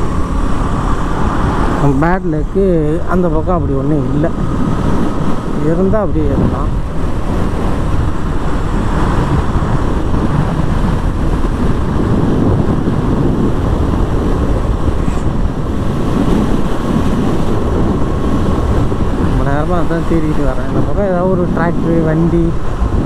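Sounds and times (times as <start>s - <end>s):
motorcycle engine cruising: 0.0s - 23.0s
wind buffeting microphone: 0.0s - 23.0s.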